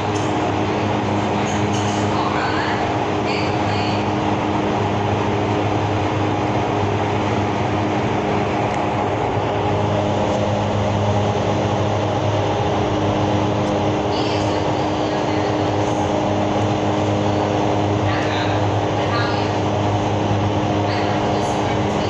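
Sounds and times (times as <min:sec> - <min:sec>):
low fan hum: 0:00.0 - 0:22.0
rush of air in wind tunnel: 0:00.0 - 0:22.0.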